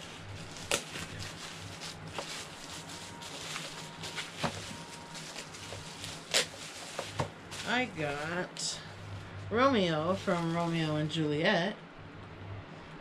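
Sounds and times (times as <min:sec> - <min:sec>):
bubble wrap crackles: 0:00.0 - 0:11.2
plastic wrap crinkling: 0:00.0 - 0:11.2.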